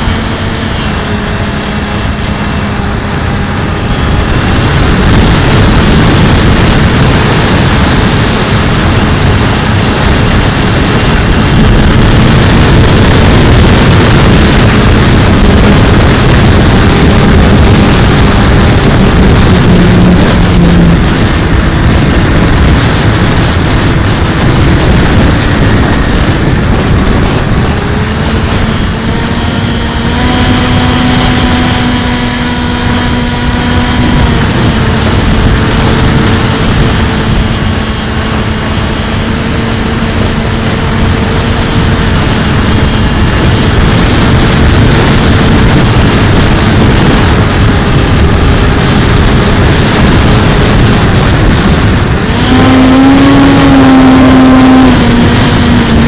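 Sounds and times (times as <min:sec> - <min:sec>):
rc plane motor whining: 0:00.0 - 0:56.0
wind rumble on microphone: 0:00.0 - 0:56.0.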